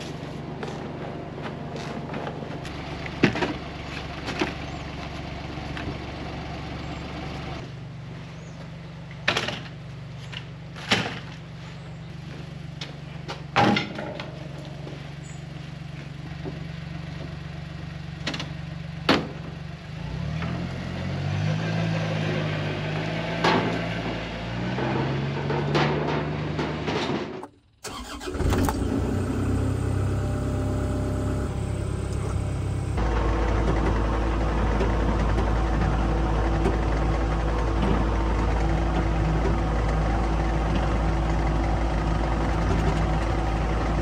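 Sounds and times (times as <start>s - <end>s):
utility vehicle engine: 0.0s - 44.0s.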